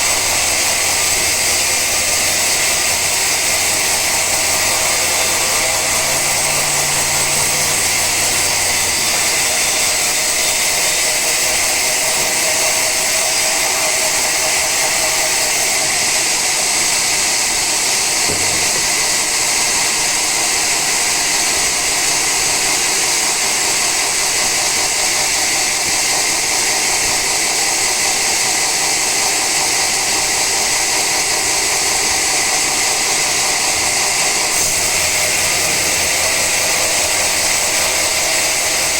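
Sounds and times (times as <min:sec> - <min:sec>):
saw blade hissing through wood: 0:00.0 - 0:28.7, 0:31.0 - 0:38.9
motor whine: 0:00.0 - 0:38.9.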